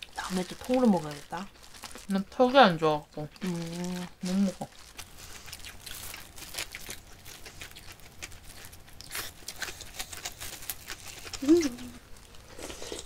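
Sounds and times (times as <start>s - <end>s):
person chewing food: 0.0s - 2.1s, 3.3s - 13.0s.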